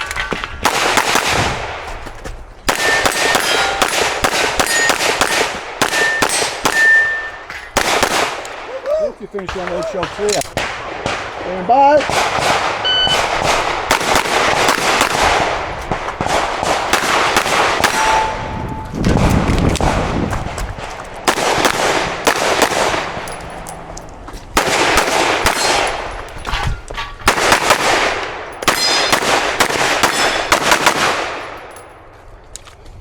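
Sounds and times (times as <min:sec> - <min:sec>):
pistol shots echoing: 0:00.0 - 0:01.9, 0:02.6 - 0:08.7, 0:09.4 - 0:26.6, 0:27.2 - 0:32.0.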